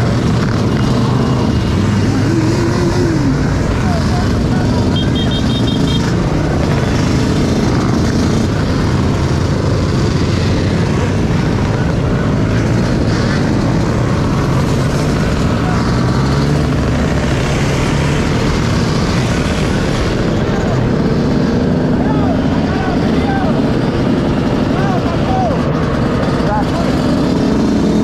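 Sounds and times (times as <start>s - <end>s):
off-road vehicle rumbling: 0.0s - 28.0s.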